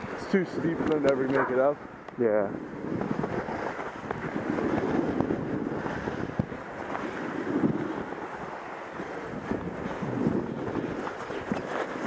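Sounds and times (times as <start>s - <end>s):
sled runners scraping on snow: 0.0s - 12.0s
wind on microphone: 0.0s - 12.0s.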